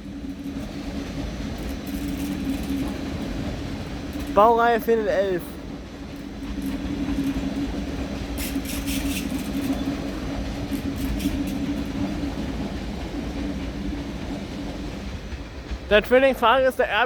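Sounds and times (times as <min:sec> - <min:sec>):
electric train hum: 0:00.0 - 0:17.0.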